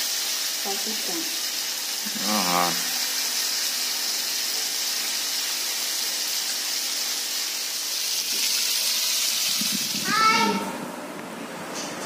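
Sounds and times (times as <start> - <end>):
fish sizzling in hot oil: 0.0 - 10.1.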